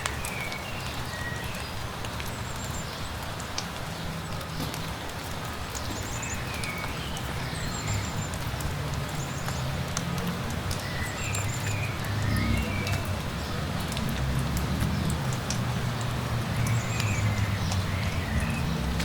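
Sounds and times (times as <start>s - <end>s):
light rain: 0.0s - 19.0s
rain drop ticks: 0.0s - 19.0s
small birds chirping and trilling: 0.0s - 19.0s.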